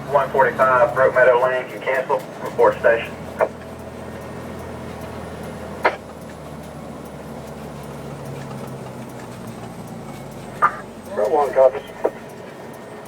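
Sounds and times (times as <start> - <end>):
engine droning from inside cab: 0.0 - 13.0.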